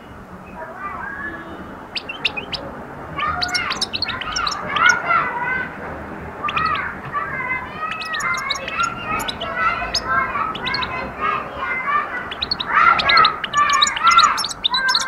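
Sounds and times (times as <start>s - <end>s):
bird singing and twittering: 0.0s - 5.1s, 6.4s - 11.4s, 12.2s - 15.0s.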